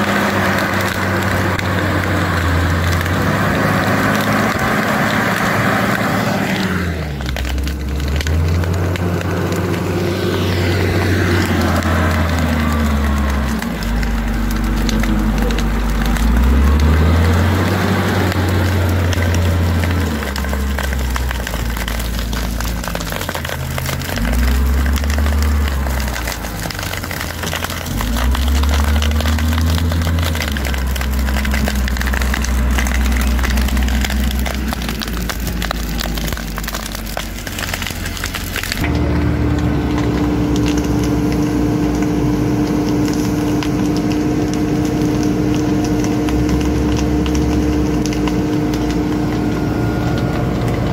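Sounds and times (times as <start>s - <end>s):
diesel engine revving under load: 0.0s - 50.9s
dry brush and soil crunching: 0.0s - 50.9s.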